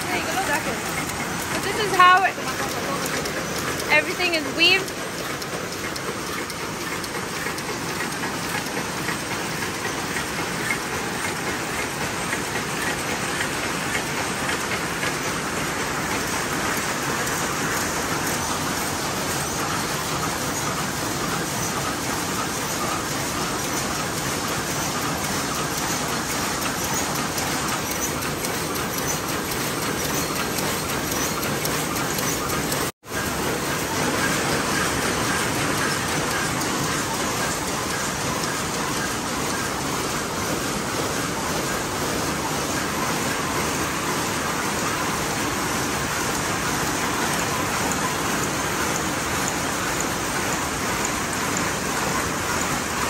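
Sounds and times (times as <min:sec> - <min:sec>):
weaving looms clattering: 0:00.0 - 0:53.0.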